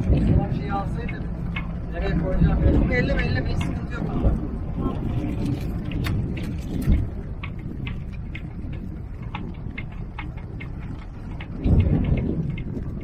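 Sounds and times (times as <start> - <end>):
light clicks and ticks: 0.0 - 13.0
wind rumble on microphone: 0.0 - 13.0.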